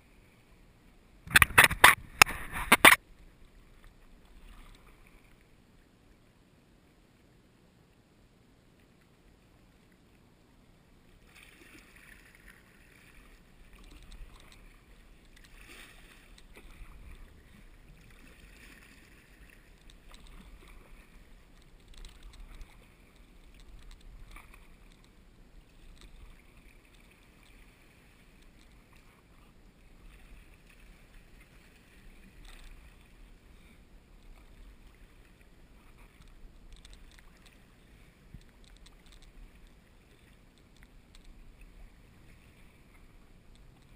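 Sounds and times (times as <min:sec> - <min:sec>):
kayak paddle splashing: 0:01.2 - 0:05.5, 0:11.2 - 0:43.9.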